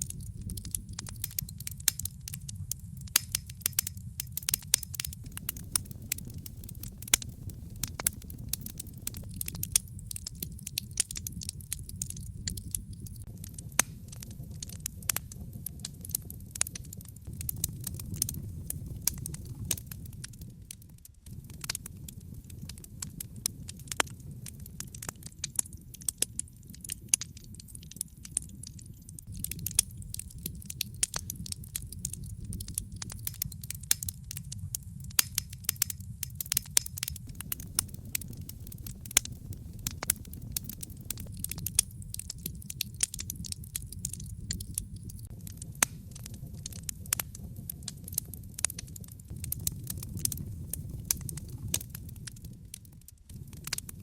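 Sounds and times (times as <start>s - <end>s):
fire crackling and popping: 0.0s - 54.0s
low fire rumble: 0.0s - 54.0s.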